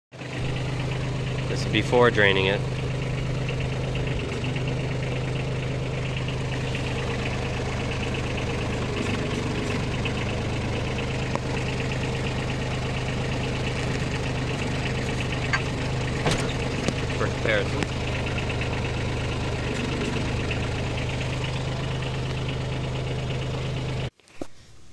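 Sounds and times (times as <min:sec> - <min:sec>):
diesel tractor engine idling: 0:00.1 - 0:24.1.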